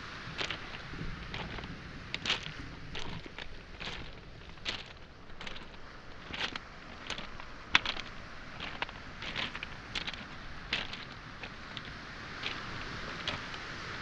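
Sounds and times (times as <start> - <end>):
faint surf wash: 0.0 - 14.0
footsteps crunching on pebbles: 0.0 - 14.0.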